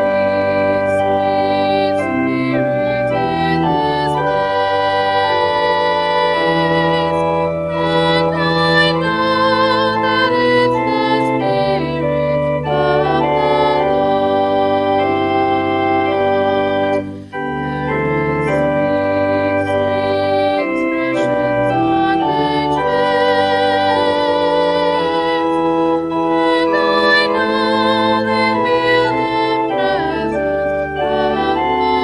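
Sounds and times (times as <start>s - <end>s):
organ: 0.0s - 32.0s
woman singing a hymn: 0.0s - 32.0s.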